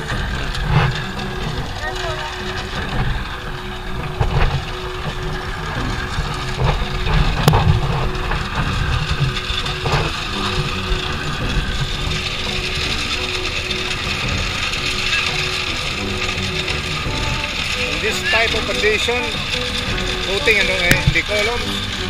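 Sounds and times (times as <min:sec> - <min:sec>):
concrete mixer running: 0:00.0 - 0:22.0.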